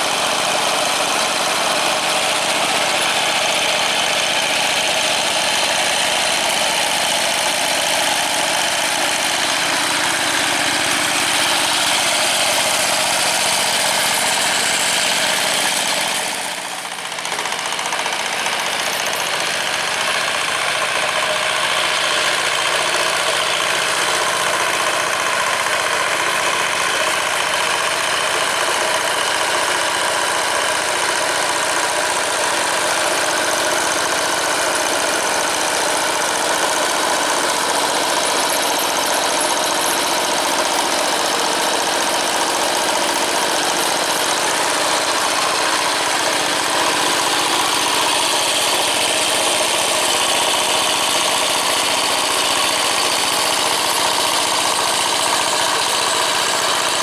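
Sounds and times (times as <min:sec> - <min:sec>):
single-cylinder diesel engine running: 0:00.0 - 0:57.0.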